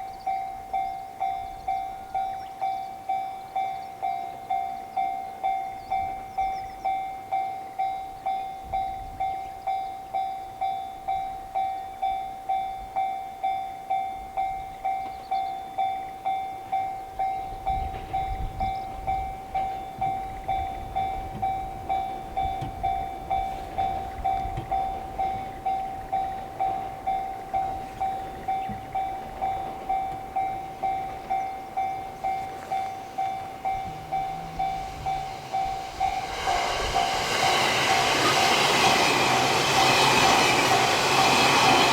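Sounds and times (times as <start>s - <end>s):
level crossing bell clanging: 0.0s - 41.9s
train rumble: 0.0s - 41.9s.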